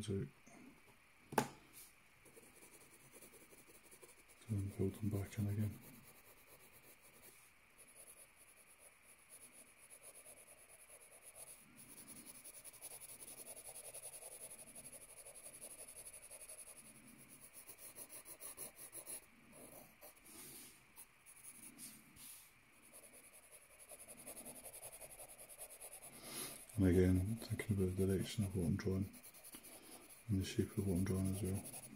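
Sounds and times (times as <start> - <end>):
pencil scratching on paper: 2.2 - 31.9.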